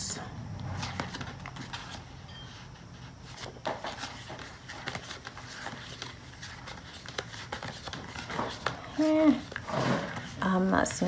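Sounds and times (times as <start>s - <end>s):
paper pages rustling: 0.6s - 10.7s.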